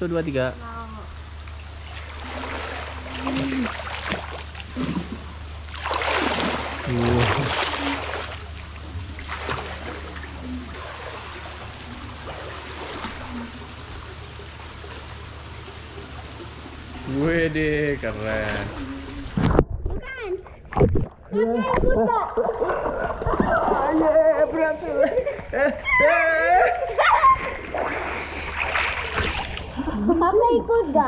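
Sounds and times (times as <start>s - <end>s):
water splashing in a pool: 1.4s - 19.8s, 20.4s - 24.3s, 26.0s - 30.1s.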